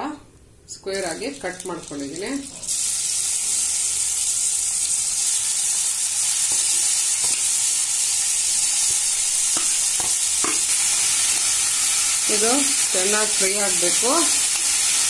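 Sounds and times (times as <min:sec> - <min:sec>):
onions sizzling in hot oil: 0:01.0 - 0:15.0.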